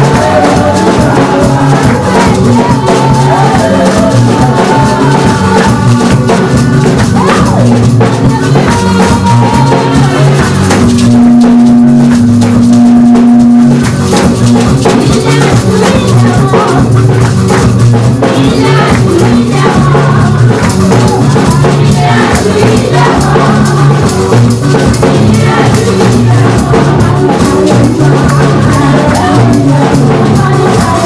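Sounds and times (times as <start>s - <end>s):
women singing into microphones: 0.0s - 11.9s, 14.8s - 17.2s, 18.0s - 31.0s
drums and shakers: 0.0s - 31.0s.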